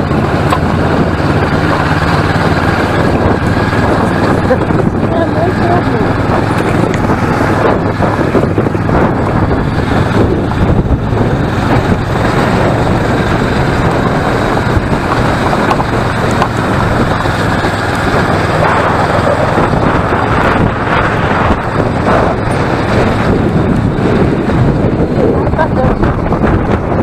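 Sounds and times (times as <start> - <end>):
motorcycle engine running: 0.0 - 27.0
wind rush on microphone: 0.0 - 27.0.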